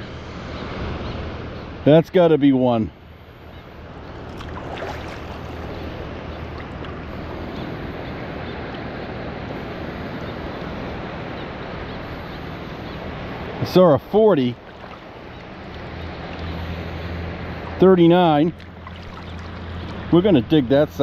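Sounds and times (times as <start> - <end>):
wind: 0.0 - 21.0
sea water rushing: 3.7 - 21.0.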